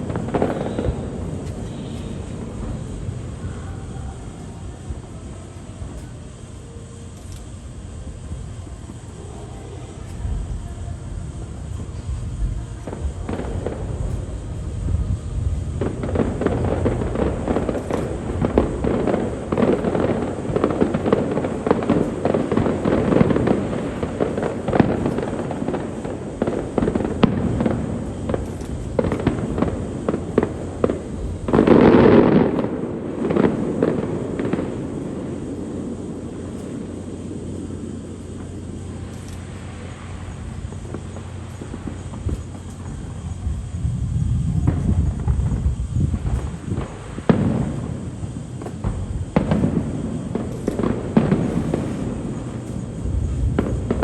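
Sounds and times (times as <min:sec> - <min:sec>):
fireworks crackling and popping: 0:00.0 - 0:54.0
loud fireworks blast: 0:00.0 - 0:54.0.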